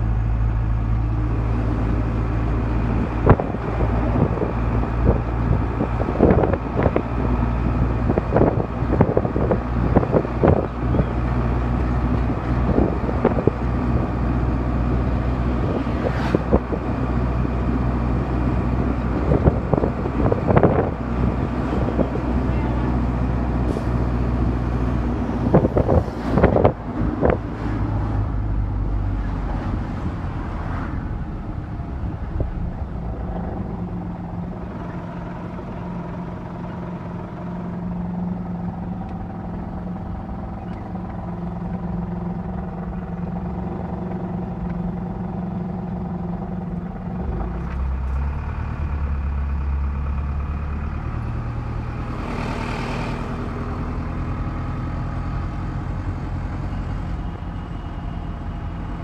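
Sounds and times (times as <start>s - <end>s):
deep rumble: 0.0s - 59.0s
vehicle engine and road hum: 0.0s - 59.0s.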